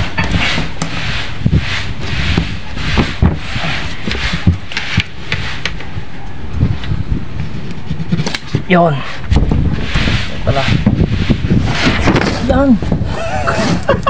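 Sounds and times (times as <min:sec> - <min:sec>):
plywood board scraping: 0:00.0 - 0:14.0.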